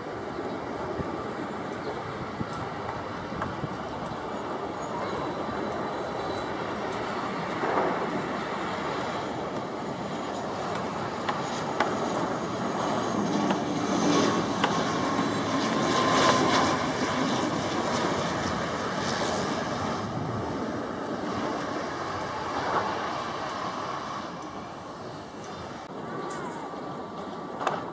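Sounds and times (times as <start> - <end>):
turboprop aircraft landing: 0.0 - 27.9.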